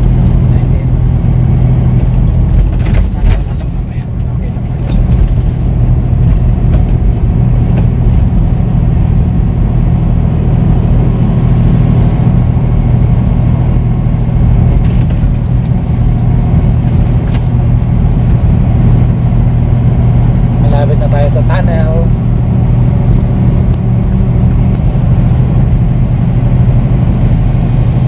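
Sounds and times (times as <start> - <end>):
road and tyre noise: 0.0 - 28.0
truck engine drone: 0.0 - 28.0.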